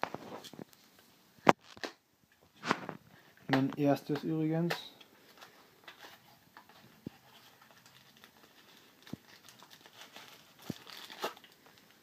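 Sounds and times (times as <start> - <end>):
soft plastic packaging rustling: 0.0 - 12.0.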